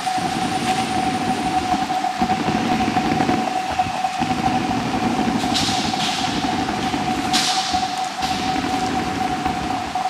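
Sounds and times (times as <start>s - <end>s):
low rumbling fluttering noise: 0.0s - 10.0s
steady electronic tone: 0.0s - 10.0s.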